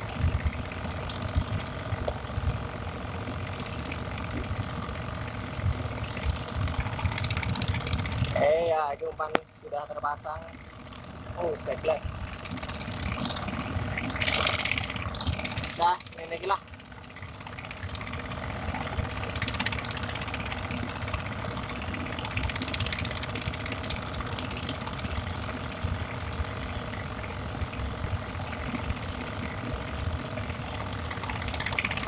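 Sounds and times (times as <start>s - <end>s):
pump engine running: 0.0s - 32.0s.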